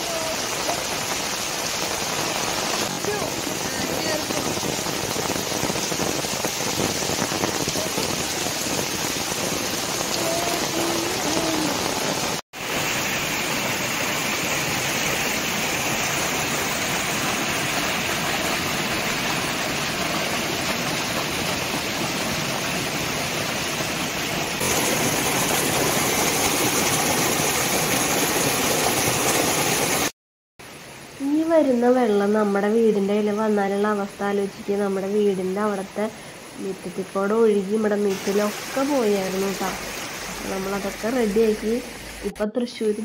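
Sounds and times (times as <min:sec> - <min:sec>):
heavy rain: 0:00.0 - 0:42.4
stormwater rushing down a slope: 0:00.0 - 0:42.4.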